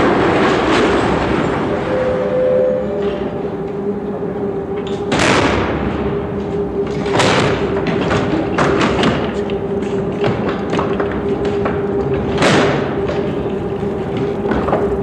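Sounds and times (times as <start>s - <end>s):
steady machinery hum: 0.0s - 15.0s.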